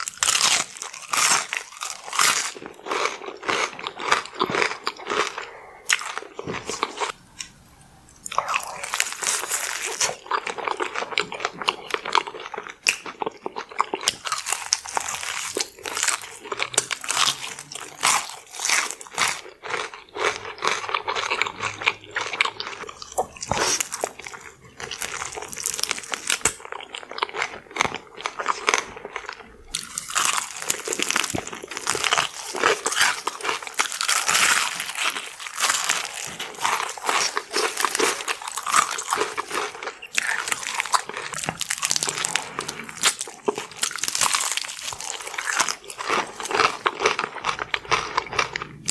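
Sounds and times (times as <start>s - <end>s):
crunching fried chicken: 0.0s - 48.9s.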